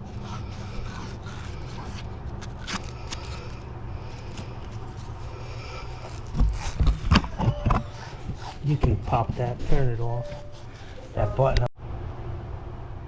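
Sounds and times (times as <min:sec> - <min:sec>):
light scraping: 0:00.0 - 0:11.6.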